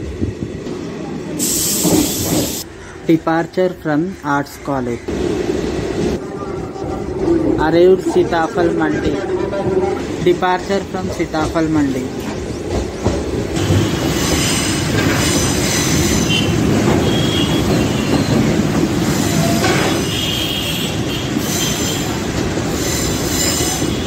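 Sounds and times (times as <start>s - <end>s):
train wheels rumbling on rail: 0.0s - 2.7s, 5.1s - 24.0s.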